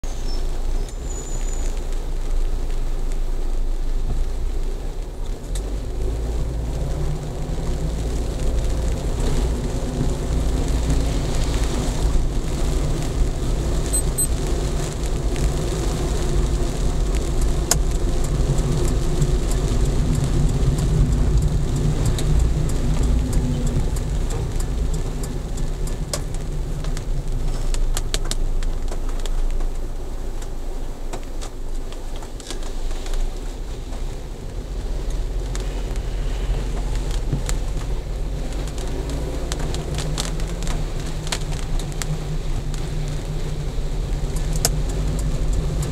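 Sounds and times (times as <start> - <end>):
engine and tyres on wet road: 0.0 - 45.9.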